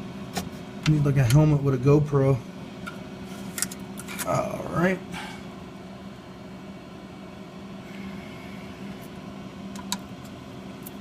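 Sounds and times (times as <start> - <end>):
low fan hum: 0.0 - 11.0.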